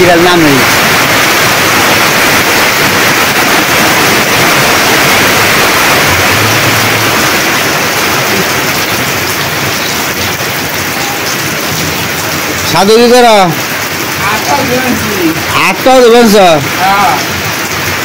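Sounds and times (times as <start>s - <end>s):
heavy rain on tin roofs: 0.0s - 18.0s.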